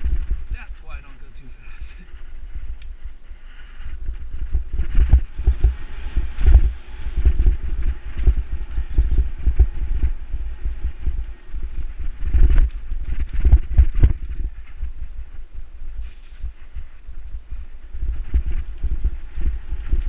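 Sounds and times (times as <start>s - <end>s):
wind buffeting microphone: 0.0s - 20.0s
bike tyres rumbling over dirt: 1.8s - 20.0s.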